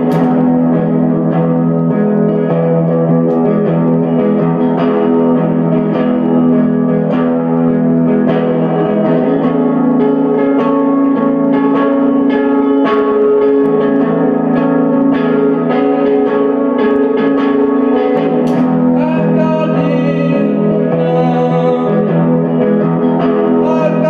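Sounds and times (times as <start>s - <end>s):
instrumental guitar music: 0.0s - 24.0s.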